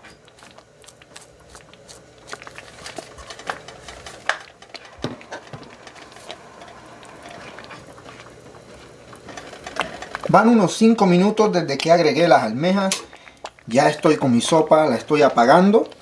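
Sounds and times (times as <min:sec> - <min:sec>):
wooden spoon stirring soup in pot: 0:00.0 - 0:16.0.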